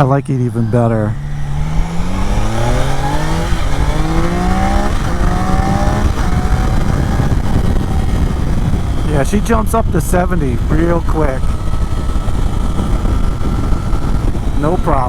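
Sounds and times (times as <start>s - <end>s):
motorcycle engine accelerating: 0.0s - 15.0s
wind rush on microphone: 0.0s - 15.0s.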